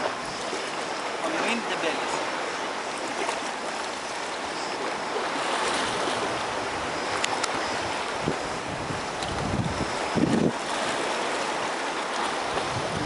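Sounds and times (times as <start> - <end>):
small waves lapping on rocks: 0.0 - 13.0
wind gusts on microphone: 0.0 - 13.0.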